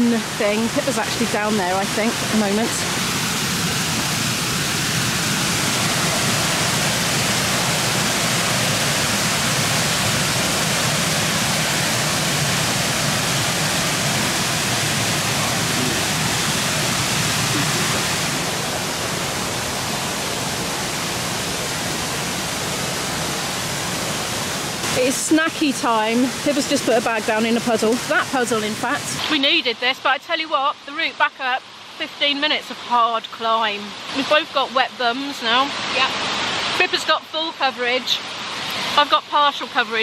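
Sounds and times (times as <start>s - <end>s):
waterfall rushing over rocks: 0.0s - 40.0s.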